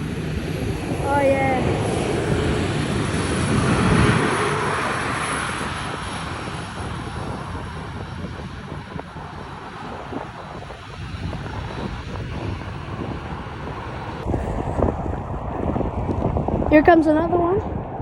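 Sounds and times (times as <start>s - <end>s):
airliner engine noise: 0.0s - 18.0s.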